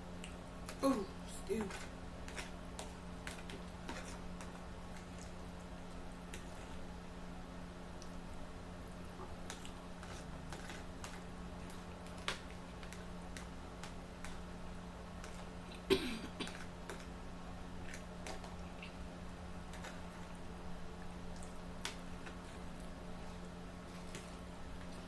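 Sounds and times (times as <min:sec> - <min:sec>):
steady low hum: 0:00.0 - 0:25.0
chewing and smacking: 0:00.1 - 0:00.8, 0:01.6 - 0:06.9, 0:07.9 - 0:25.0.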